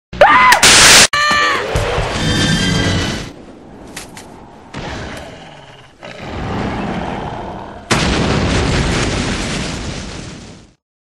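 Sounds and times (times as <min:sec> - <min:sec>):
rumbling explosions: 0:01.7 - 0:10.8.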